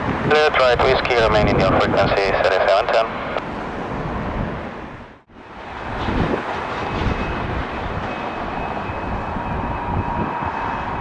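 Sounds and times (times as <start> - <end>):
jet engines rumbling with whine: 0.0 - 11.0.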